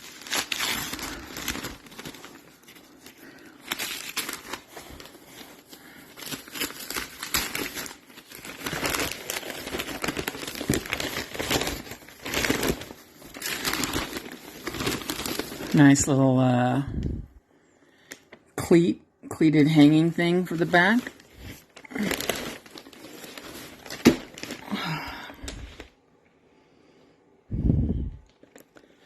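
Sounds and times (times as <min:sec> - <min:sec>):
packaging crinkling and rustling: 0:00.0 - 0:16.3, 0:19.6 - 0:26.0, 0:28.2 - 0:29.0.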